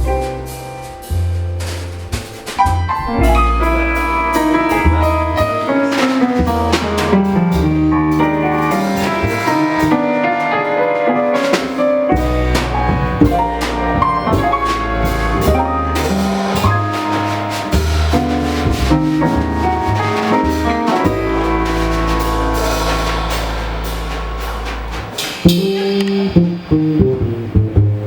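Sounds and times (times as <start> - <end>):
drum kit: 0.0 - 28.0
low bass notes: 2.7 - 28.0.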